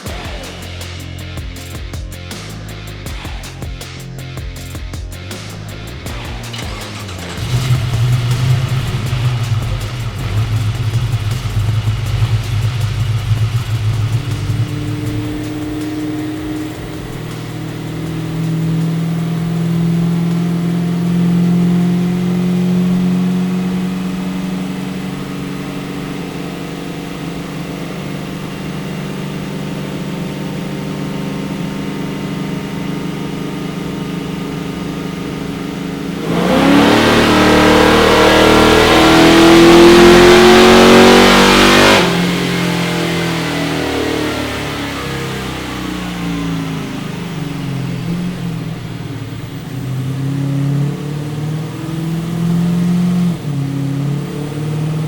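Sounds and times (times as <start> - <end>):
car engine revving on dyno: 5.4 - 55.0.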